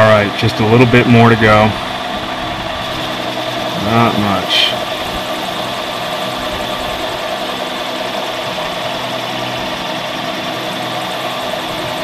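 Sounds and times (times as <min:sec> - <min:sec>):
metal lathe motor humming: 0:00.0 - 0:12.0.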